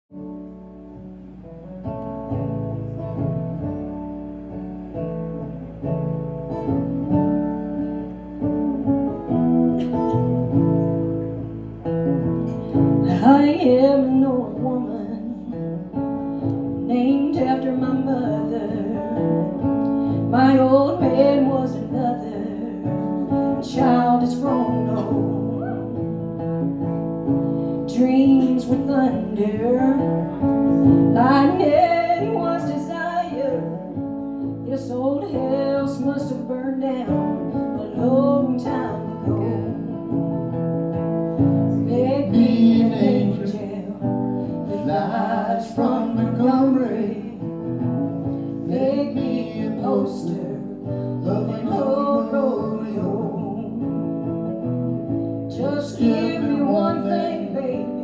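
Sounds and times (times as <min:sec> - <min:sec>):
acoustic guitar chords: 0:00.1 - 0:58.0
guitar lead with bent notes: 0:00.1 - 0:58.0.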